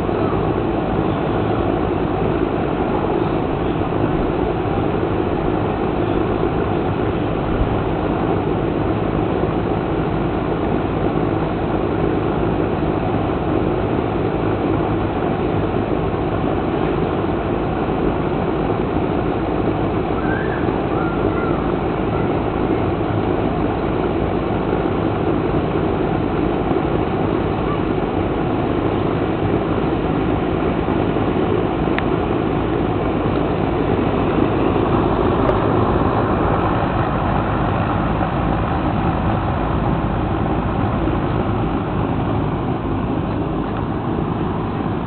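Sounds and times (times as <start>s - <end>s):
steady rushing noise: 0.0s - 45.0s.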